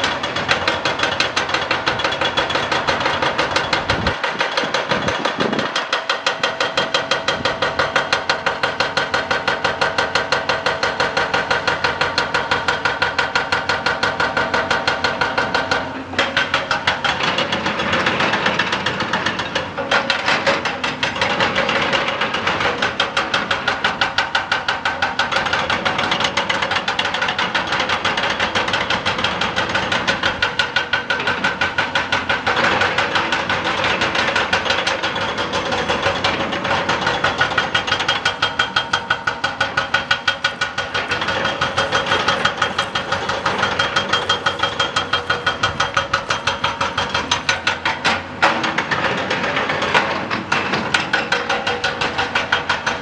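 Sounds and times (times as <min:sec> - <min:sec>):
excavator engine running: 0:00.0 - 0:53.0
hydraulic breaker hammering rock: 0:00.0 - 0:53.0.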